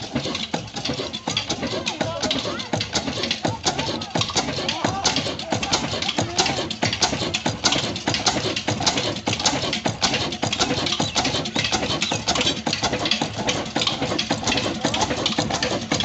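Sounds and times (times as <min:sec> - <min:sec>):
flour mill running: 0:00.0 - 0:16.0
old engine clattering: 0:00.0 - 0:16.0.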